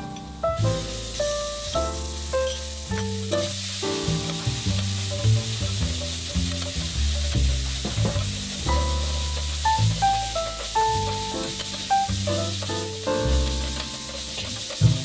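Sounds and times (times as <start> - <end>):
background tune with bass: 0.0 - 15.0
paste sizzling in hot oil: 0.2 - 15.0
metal spatula stirring in pan: 1.8 - 15.0.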